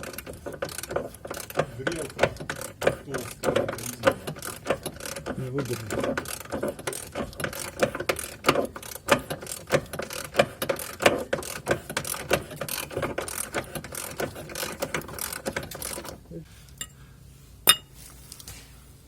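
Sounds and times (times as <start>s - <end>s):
ratchet wrench clicking: 0.0s - 16.1s.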